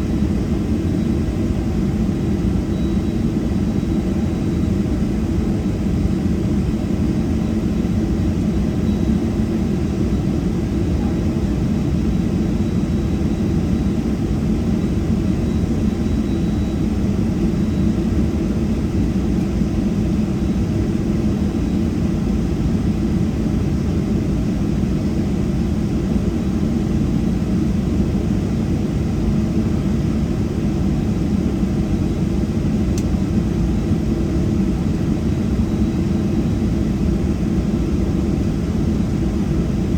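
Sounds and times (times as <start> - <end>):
aircraft cabin engine rumble: 0.0 - 39.9
faint high steady whine: 0.0 - 39.9.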